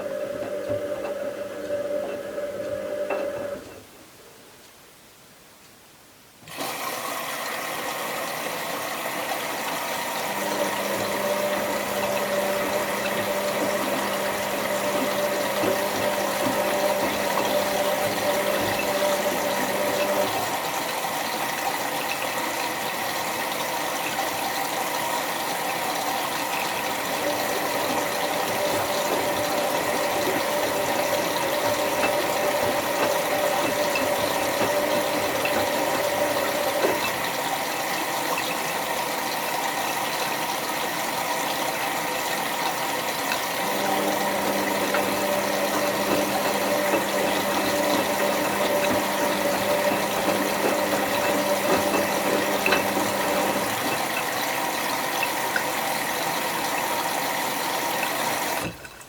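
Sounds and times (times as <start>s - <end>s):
water rushing through washing machine: 0.0s - 3.8s, 6.4s - 59.0s.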